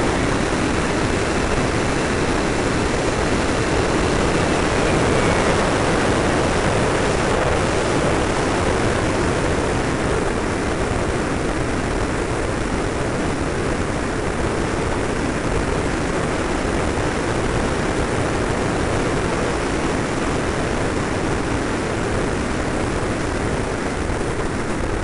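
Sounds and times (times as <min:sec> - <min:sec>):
faint whine: 0:00.0 - 0:25.0
model jet rushing drone: 0:00.0 - 0:25.0.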